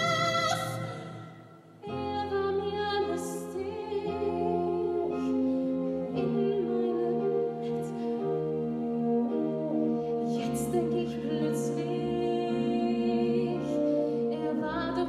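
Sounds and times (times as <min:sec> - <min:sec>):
musical theatre orchestra: 0:00.0 - 0:15.0
woman singing: 0:00.0 - 0:15.0.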